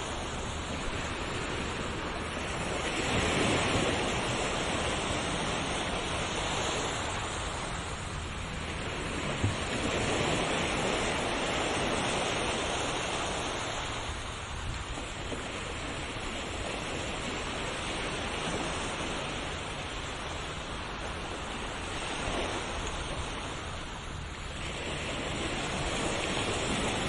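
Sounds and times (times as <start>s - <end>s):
ocean waves washing: 0.0s - 27.0s.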